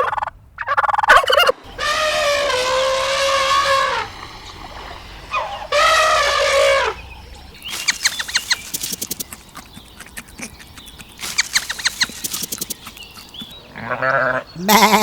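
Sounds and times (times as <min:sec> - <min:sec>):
fowl calling: 0:00.0 - 0:15.0.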